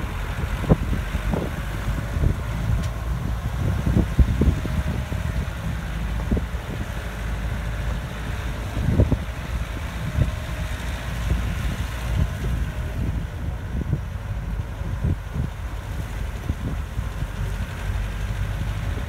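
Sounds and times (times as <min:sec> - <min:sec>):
vehicle jolting over bumps: 0:00.0 - 0:19.0
vehicle rumbling on dirt road: 0:00.0 - 0:19.0.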